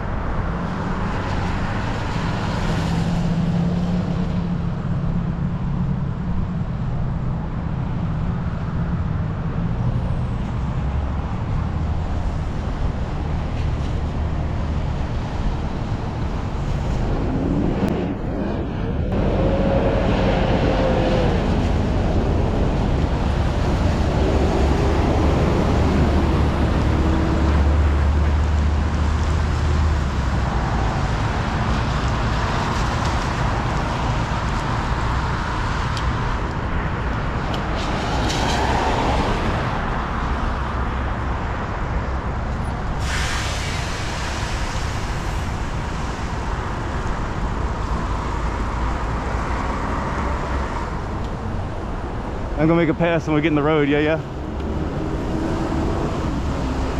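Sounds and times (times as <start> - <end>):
vehicles passing: 0.0 - 56.9
tyres on wet pavement: 9.5 - 56.9.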